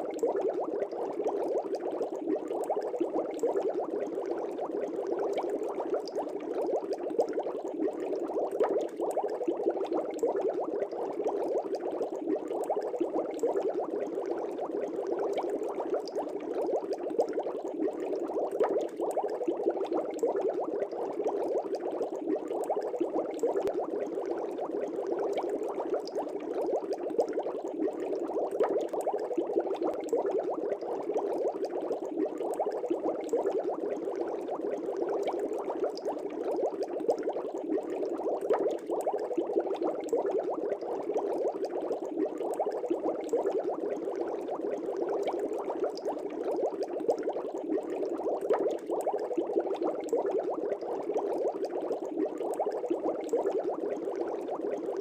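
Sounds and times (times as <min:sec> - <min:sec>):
air bubbles burbling in fish tank: 0:00.0 - 0:55.0.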